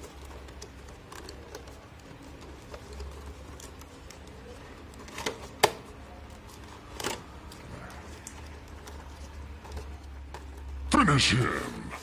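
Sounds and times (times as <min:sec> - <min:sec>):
packaging rustle: 0:00.0 - 0:11.0.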